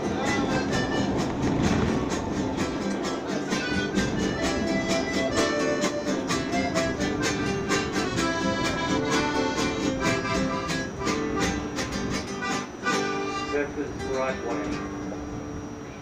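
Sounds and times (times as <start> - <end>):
accordion music with steady beat: 0.0 - 13.9.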